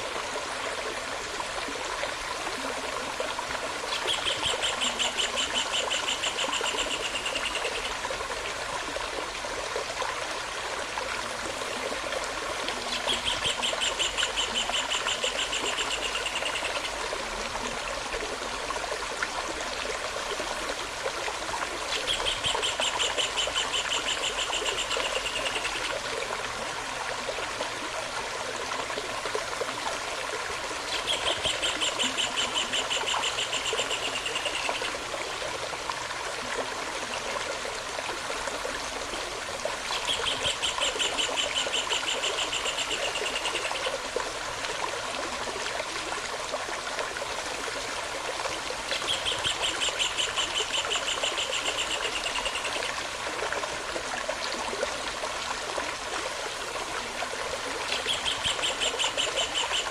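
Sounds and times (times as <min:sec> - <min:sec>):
small stream running: 0:00.0 - 0:59.9.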